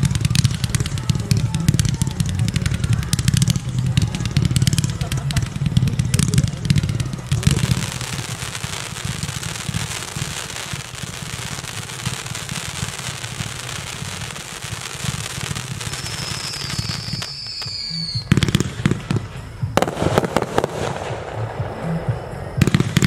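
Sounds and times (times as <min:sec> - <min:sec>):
falling firework whistle: 0:00.0 - 0:23.0
fireworks crackling: 0:00.0 - 0:23.0.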